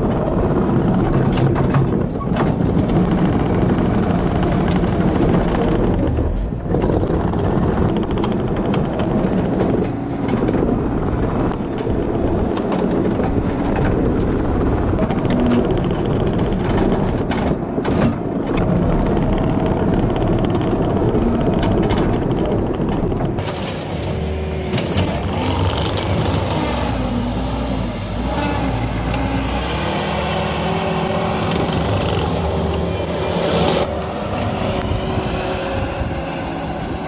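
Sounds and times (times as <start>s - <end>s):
diesel engine and hydraulic drone: 0.0s - 37.0s.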